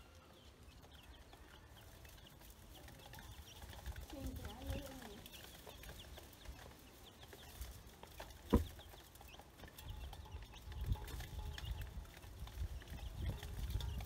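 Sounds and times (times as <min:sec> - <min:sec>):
chicks and ducklings peeping: 0:00.0 - 0:14.0.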